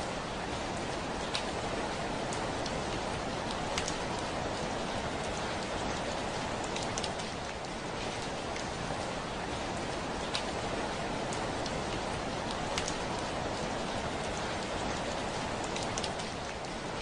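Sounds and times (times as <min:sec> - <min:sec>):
heavy rain on a window: 0:00.0 - 0:17.0.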